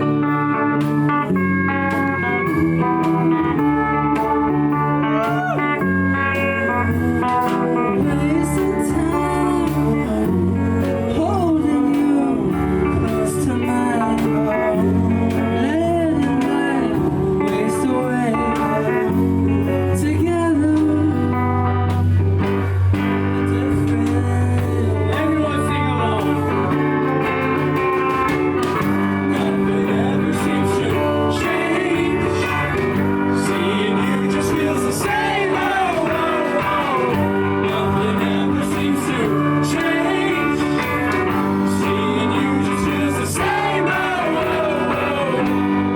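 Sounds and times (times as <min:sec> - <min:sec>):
blues or country song with vocals: 0:00.0 - 0:45.9.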